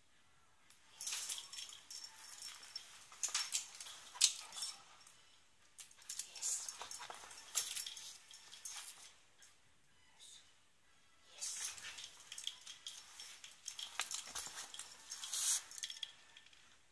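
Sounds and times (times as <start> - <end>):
light jingling and rustling: 0.7 - 9.6, 11.4 - 16.9.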